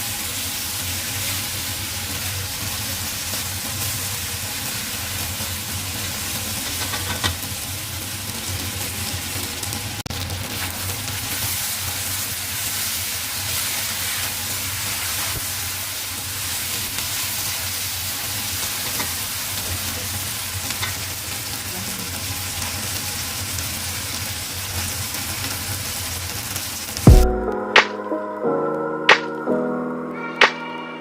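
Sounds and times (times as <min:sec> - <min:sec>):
food sizzling in a pan: 0:00.0 - 0:27.2.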